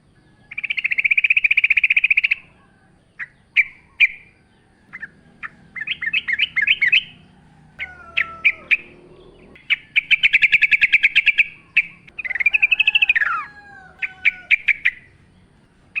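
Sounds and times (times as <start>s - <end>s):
bird chirping and trilling: 0.4s - 16.0s.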